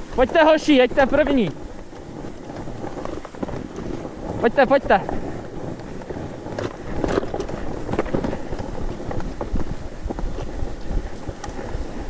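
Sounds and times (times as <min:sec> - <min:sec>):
sled runners scraping snow: 0:00.0 - 0:12.0
wind rumble on microphone: 0:00.0 - 0:12.0.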